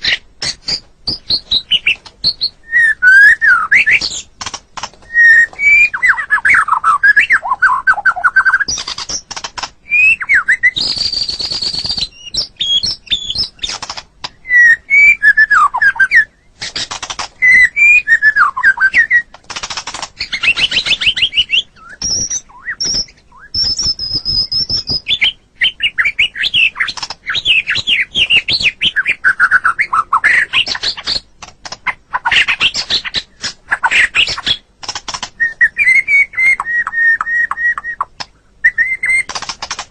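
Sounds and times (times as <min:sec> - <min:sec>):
bird singing whistled song: 0:00.0 - 0:04.3, 0:05.0 - 0:16.8, 0:17.4 - 0:19.3, 0:20.2 - 0:31.3, 0:35.4 - 0:39.5.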